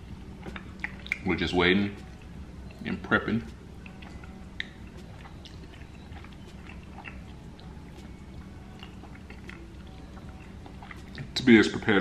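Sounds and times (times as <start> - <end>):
chewing with wet mouth clicks: 0.1 - 12.0.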